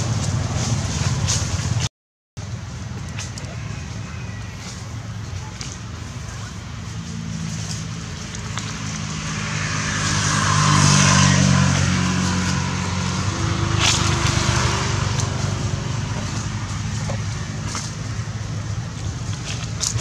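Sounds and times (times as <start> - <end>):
vehicle passing: 2.7 - 20.0.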